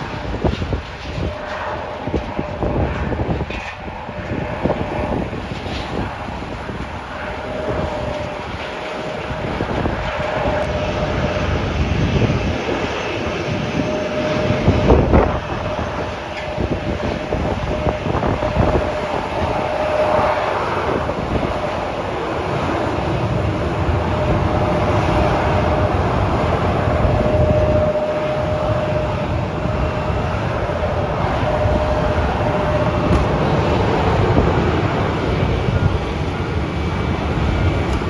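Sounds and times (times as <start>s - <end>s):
faint engine whine: 0.0s - 38.0s
jet engines rumbling: 0.0s - 38.0s.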